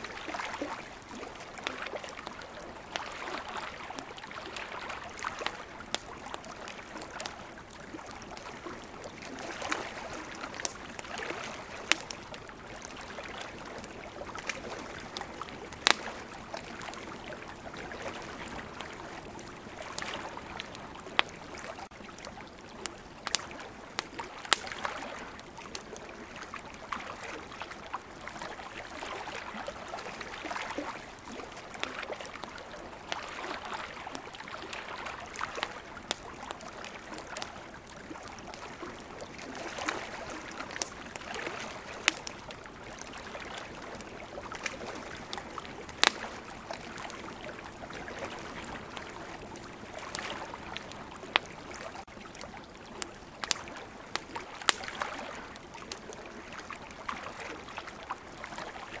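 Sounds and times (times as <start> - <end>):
ocean waves: 0.0 - 21.9, 23.6 - 52.6, 53.4 - 58.9
campfire crackling: 0.0 - 59.0.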